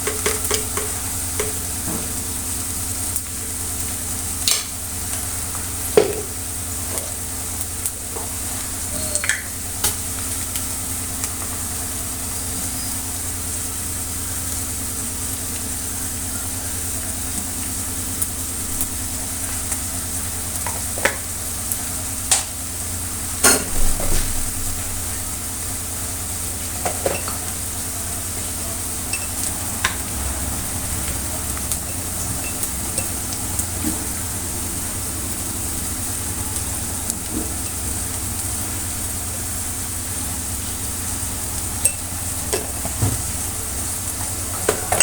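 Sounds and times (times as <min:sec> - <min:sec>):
food sizzling in a frying pan: 0:00.0 - 0:45.0.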